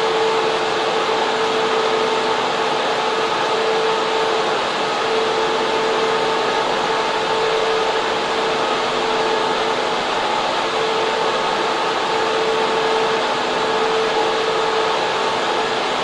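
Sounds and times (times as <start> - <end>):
fans rushing air: 0.0 - 16.0.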